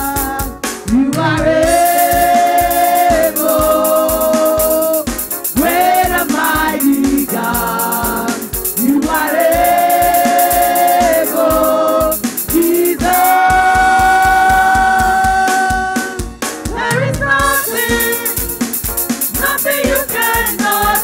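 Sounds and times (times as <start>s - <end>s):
band with steady drum beat: 0.0s - 21.0s
women's choir singing in harmony: 1.1s - 5.0s, 5.6s - 18.6s, 19.4s - 21.0s.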